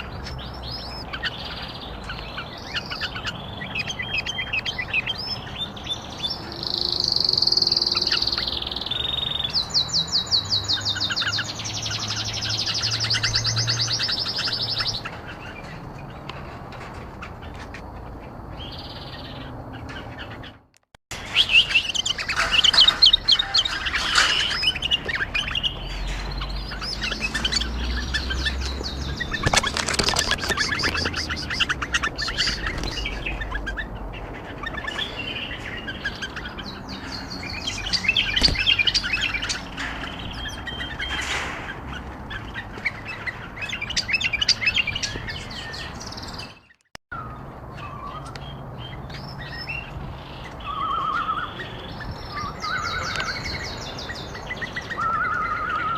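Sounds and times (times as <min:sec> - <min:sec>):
birds chirping and warbling: 0:00.0 - 0:55.9.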